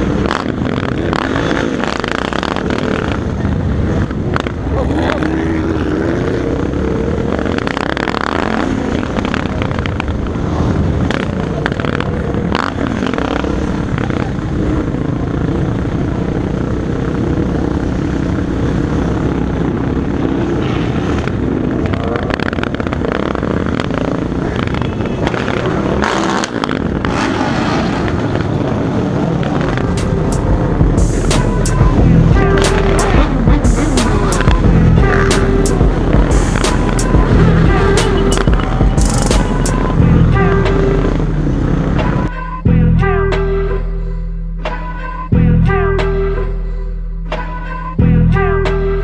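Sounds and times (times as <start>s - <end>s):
steady rushing noise: 0.0s - 42.8s
motorcycle engines revving: 0.0s - 49.0s.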